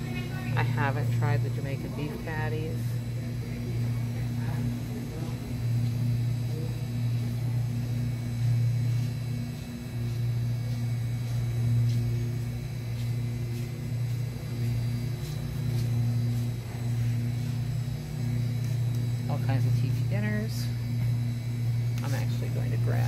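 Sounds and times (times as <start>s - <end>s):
freezer electrical hum: 0.0s - 23.0s.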